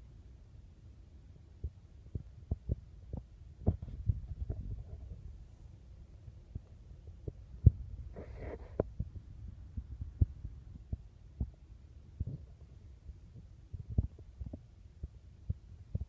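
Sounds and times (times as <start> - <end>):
wind buffeting the microphone: 2.1 - 5.5, 6.5 - 16.0.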